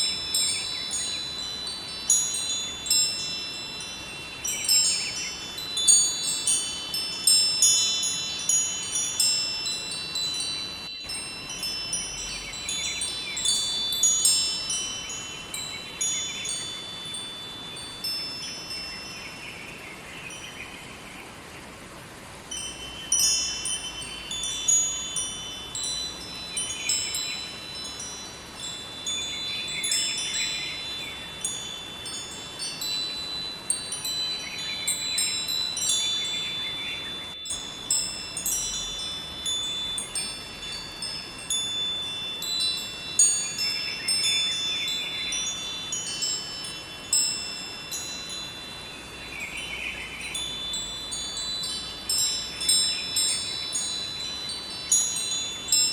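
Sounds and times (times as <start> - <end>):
wind chimes ringing: 0.0 - 20.8, 22.2 - 55.9
flowing river water: 0.0 - 55.9.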